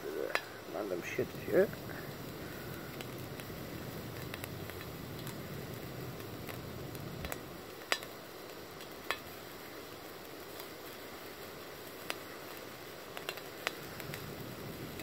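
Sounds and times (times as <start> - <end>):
bacon sizzling in frying pan: 0.0 - 15.0.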